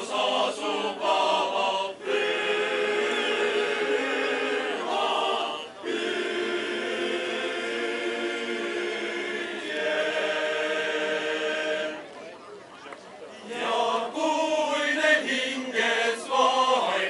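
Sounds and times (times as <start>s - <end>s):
men's choir singing: 0.0s - 12.0s, 13.4s - 17.0s.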